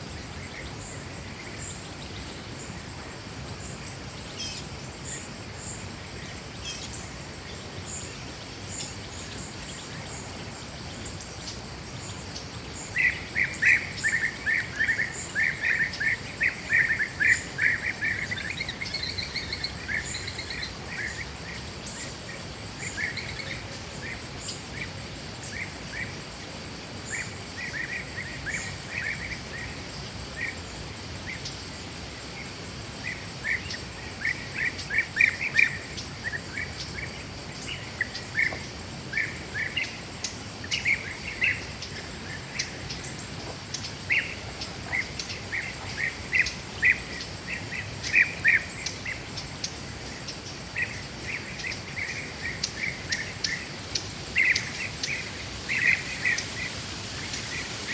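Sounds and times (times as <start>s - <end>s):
birds chirping: 0.0s - 57.9s
high insect whine: 0.0s - 57.9s.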